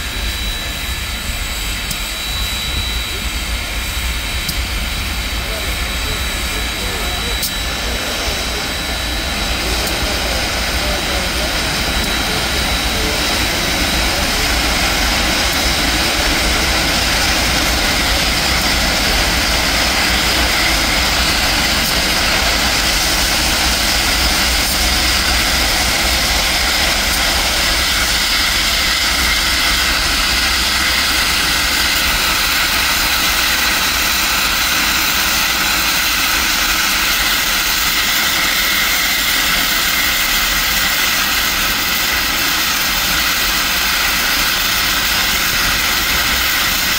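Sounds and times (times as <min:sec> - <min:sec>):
steam locomotive hissing steam: 0:00.0 - 0:46.9.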